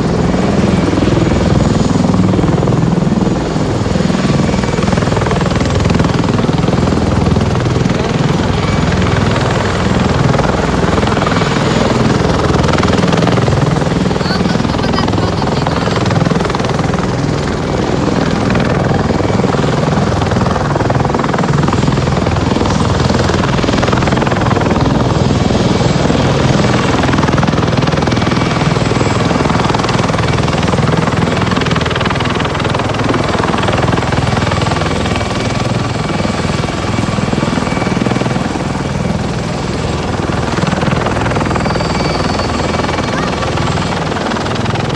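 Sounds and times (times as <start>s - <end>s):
helicopter rotor and turbine: 0.0s - 44.9s.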